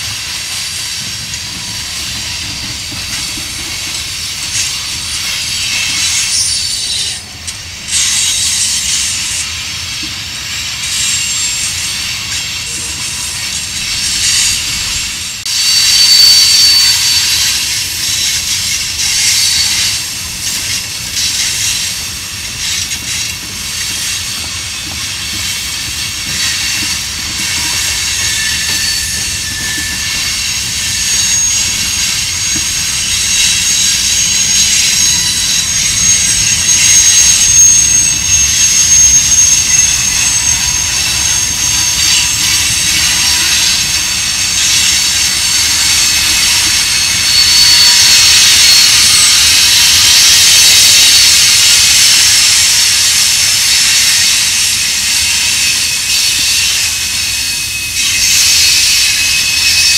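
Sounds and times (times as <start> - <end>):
train wheels rumbling on rail: 0.0 - 59.9
high-pitched wheel squeal: 4.6 - 9.0, 13.8 - 59.9.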